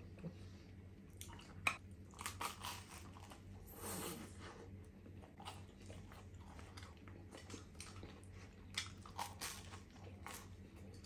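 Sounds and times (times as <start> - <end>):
chewing a toasted sandwich: 1.1 - 3.7, 4.7 - 11.0.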